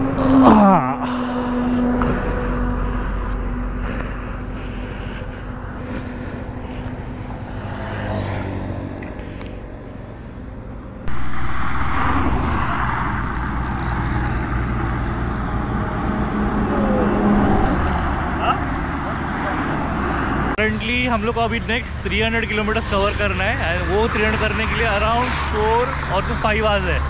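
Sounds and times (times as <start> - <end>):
highway traffic noise: 0.0 - 27.0.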